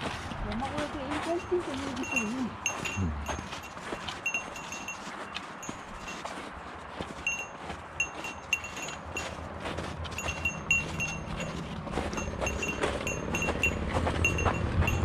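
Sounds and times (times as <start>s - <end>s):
small bell jingling: 1.0s - 6.4s, 7.2s - 9.4s, 10.1s - 15.0s.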